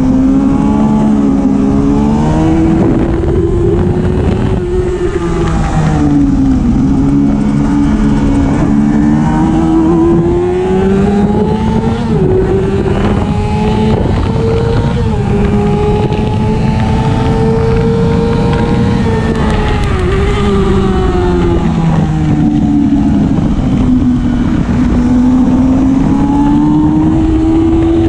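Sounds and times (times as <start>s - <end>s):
motorcycle engine accelerating: 0.0s - 28.0s
wind noise: 0.0s - 28.0s.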